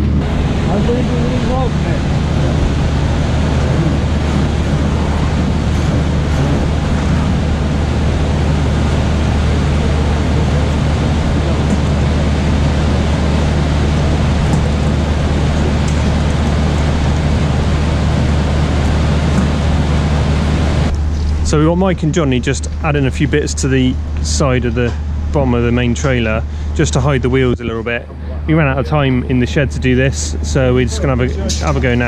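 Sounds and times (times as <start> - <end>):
generator engine running: 0.0 - 32.0.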